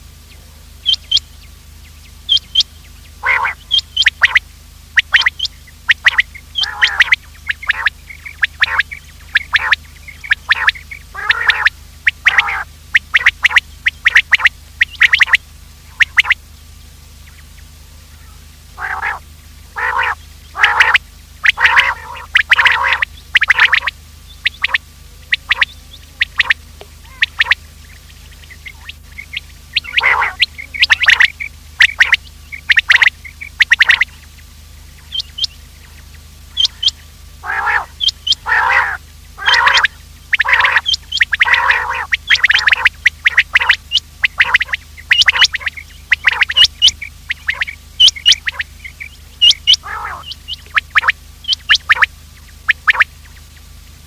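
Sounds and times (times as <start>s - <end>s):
steady low hum: 0.0s - 54.0s
quail calling: 0.8s - 1.4s, 2.1s - 16.4s, 17.2s - 34.3s, 34.9s - 53.4s.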